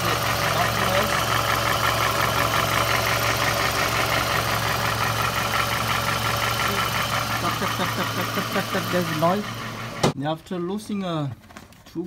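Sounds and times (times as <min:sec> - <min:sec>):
rapid ticking from engine: 0:00.0 - 0:10.0
car engine idling: 0:00.0 - 0:10.2.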